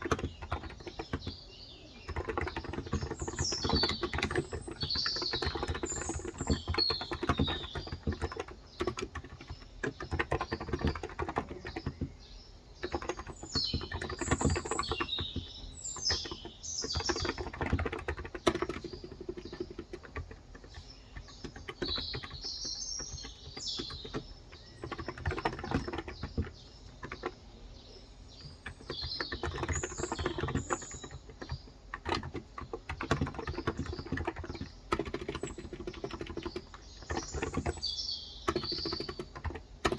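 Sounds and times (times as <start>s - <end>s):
keyboard typing: 0.0s - 12.2s, 12.8s - 39.9s
small birds chirping: 0.0s - 39.9s.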